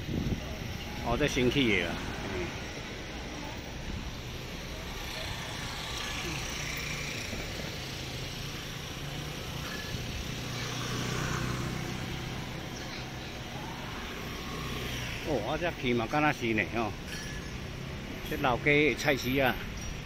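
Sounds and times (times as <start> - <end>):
scooter and car engines running: 0.0 - 20.0.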